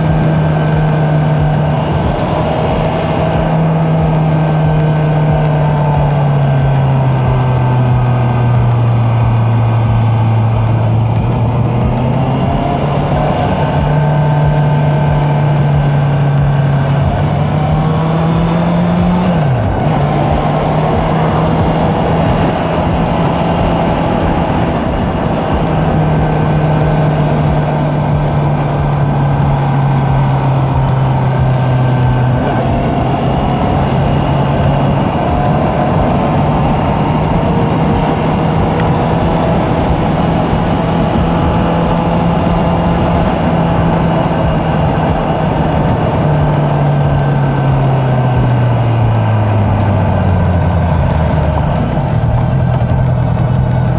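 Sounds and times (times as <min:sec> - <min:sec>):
motorcycle engine cruising: 0:00.0 - 0:53.9
road and wind noise: 0:00.0 - 0:53.9.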